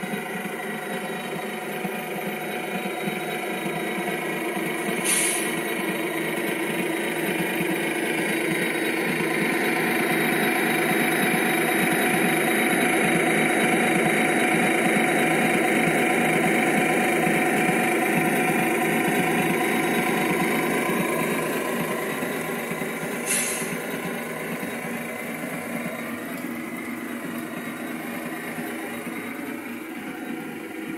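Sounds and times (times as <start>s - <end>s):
model train running hum: 0.0s - 30.9s.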